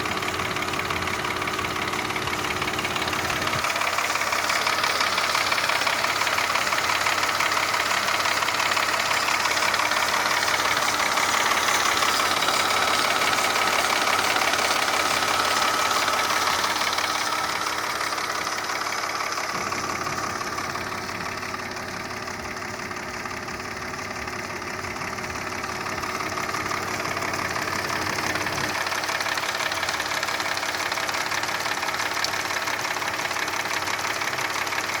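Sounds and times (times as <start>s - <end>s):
engine running with knocking: 0.0s - 35.0s.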